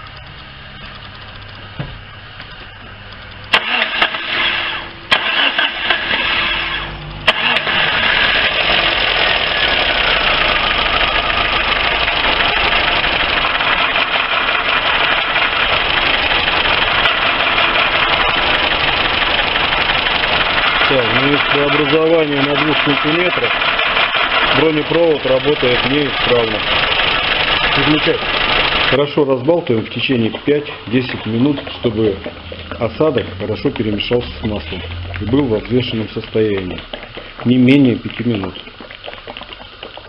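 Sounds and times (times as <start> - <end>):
car engine cranking and starting: 0.0 - 36.4.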